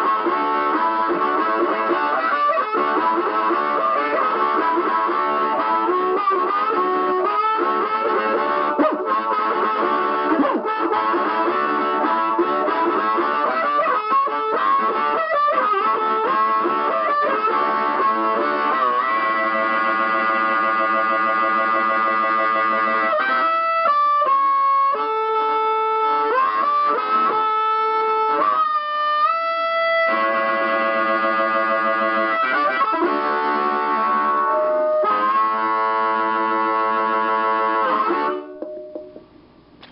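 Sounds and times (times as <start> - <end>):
amplified harmonica: 0.0 - 39.9.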